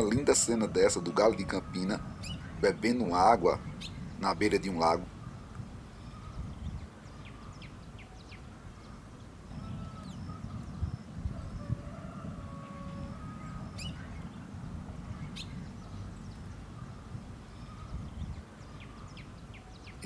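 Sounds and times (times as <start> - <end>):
high falling bird chirps: 0.0 - 11.8, 12.6 - 20.0
low outdoor rumble: 0.0 - 19.6
faint flat bird calls: 0.0 - 20.0.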